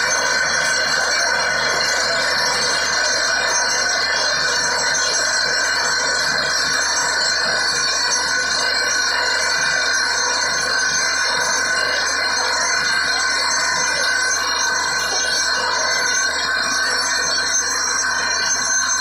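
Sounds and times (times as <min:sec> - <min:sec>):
high ringing tones: 0:00.0 - 0:19.0.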